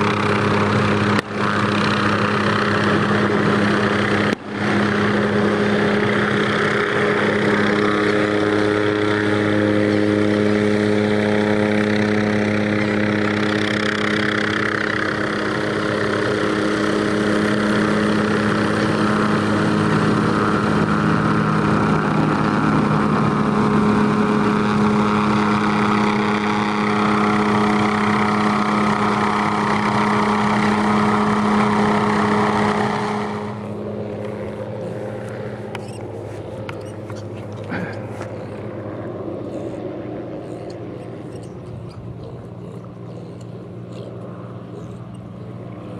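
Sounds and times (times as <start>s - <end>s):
helicopter hovering: 0.0s - 45.9s.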